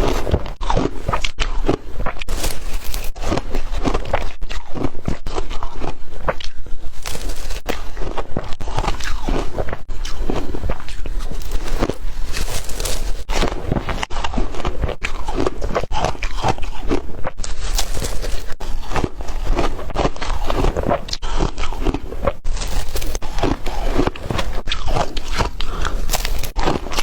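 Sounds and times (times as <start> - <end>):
person biting and chewing food: 0.0 - 27.0.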